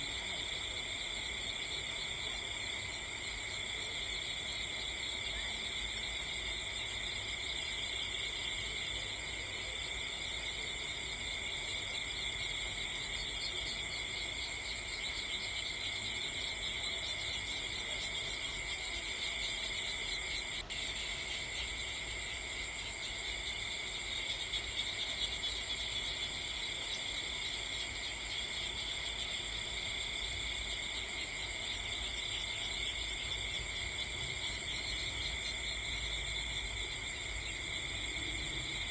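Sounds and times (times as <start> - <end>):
night insects chirring: 0.0 - 38.9.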